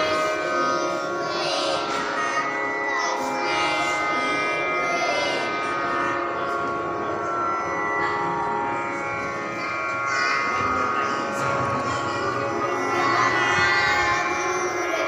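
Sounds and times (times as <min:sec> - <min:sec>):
children singing together: 0:00.0 - 0:07.2, 0:09.5 - 0:15.0.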